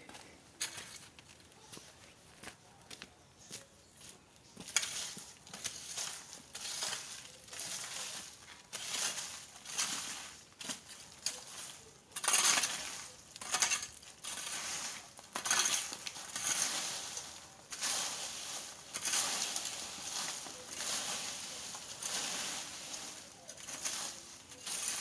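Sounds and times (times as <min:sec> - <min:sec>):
debris scraped across ground: 0:04.6 - 0:25.0.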